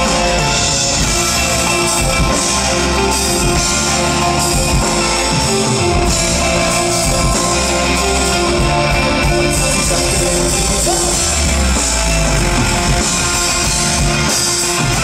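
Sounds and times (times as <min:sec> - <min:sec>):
electric guitar: 0:00.0 - 0:15.0
rock band playing: 0:00.0 - 0:15.0.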